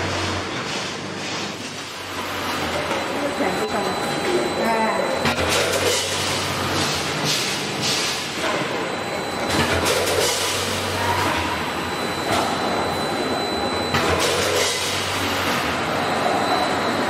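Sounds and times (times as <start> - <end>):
filling machine running: 1.2 - 17.0
thin high whine: 2.6 - 17.0.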